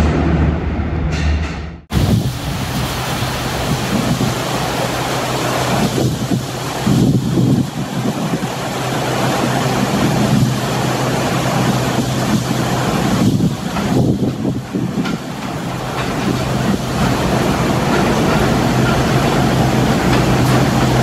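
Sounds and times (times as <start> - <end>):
locomotive low hum: 0.0 - 21.0
wind noise on microphone: 1.9 - 21.0.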